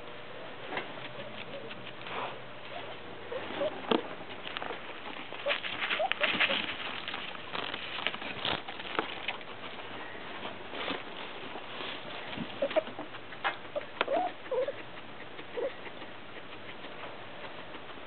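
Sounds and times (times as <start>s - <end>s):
guinea pigs rustling in bedding: 0.0s - 18.0s
guinea pig squeaks: 0.7s - 9.7s, 12.2s - 18.0s.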